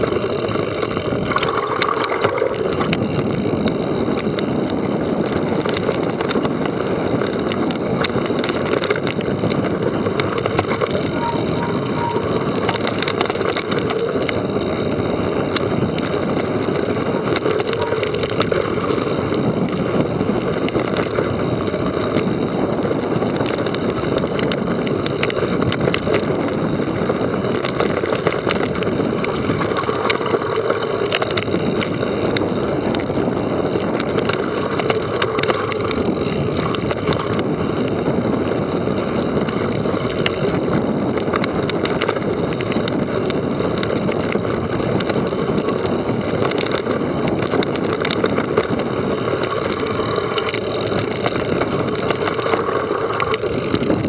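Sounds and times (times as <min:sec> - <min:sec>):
bike clicks and rattles: 0:00.0 - 0:54.0
tyres on dirt: 0:00.0 - 0:54.0
wind on microphone: 0:00.0 - 0:54.0.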